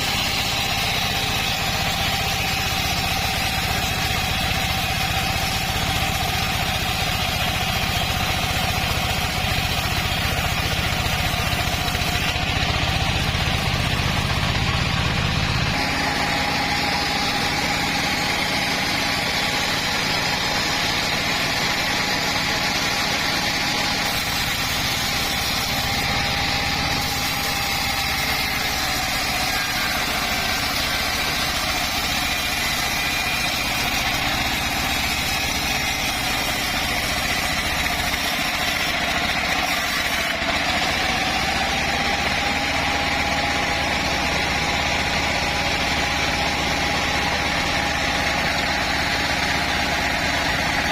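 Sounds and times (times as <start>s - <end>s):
bandsaw whining: 0.0s - 50.9s.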